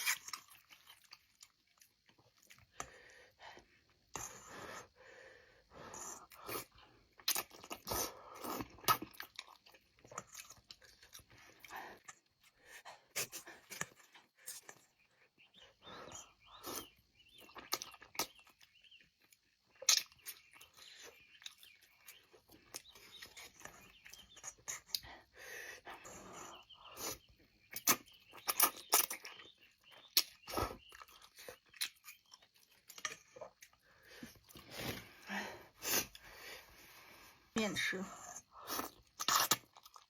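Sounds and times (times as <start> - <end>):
person chewing food: 0.0 - 37.5, 38.3 - 40.0.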